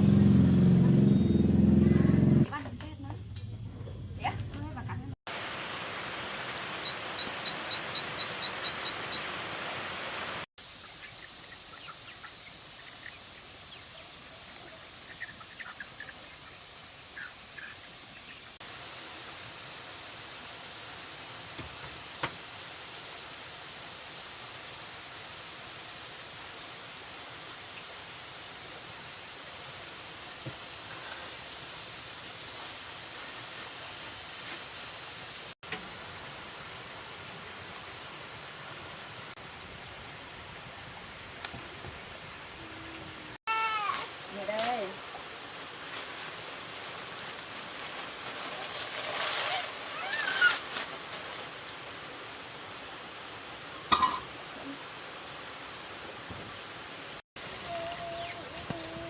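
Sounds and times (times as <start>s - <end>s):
steady hiss: 5.3s - 59.0s.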